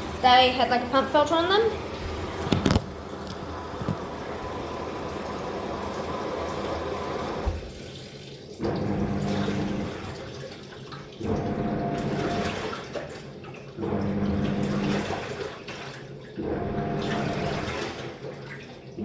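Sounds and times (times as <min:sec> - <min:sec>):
water sloshing in washing machine: 0:00.0 - 0:19.0.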